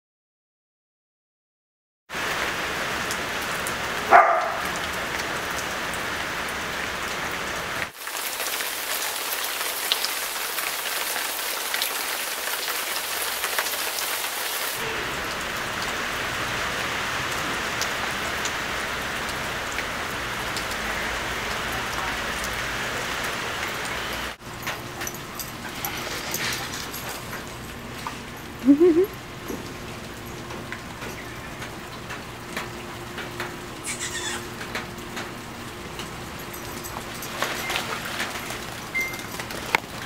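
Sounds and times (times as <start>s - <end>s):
heavy rain hissing: 2.1s - 40.0s.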